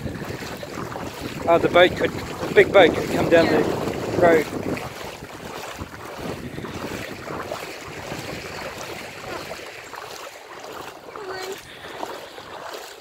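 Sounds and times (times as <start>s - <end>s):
feet wading through water: 0.0s - 13.0s.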